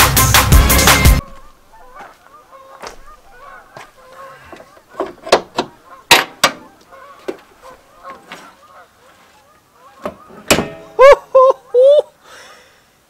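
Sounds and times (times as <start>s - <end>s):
honking bird calls: 1.0s - 11.9s.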